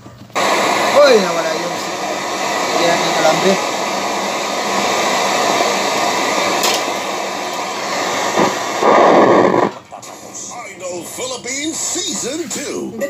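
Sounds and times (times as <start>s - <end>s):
television static hiss: 0.0s - 13.0s.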